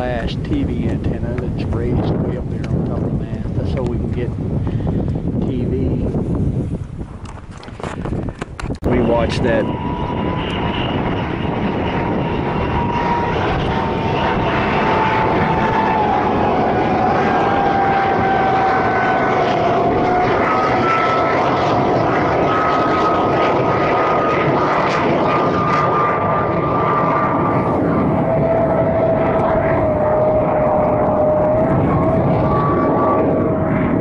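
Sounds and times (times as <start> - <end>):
jet engines roaring overhead: 0.0 - 34.0.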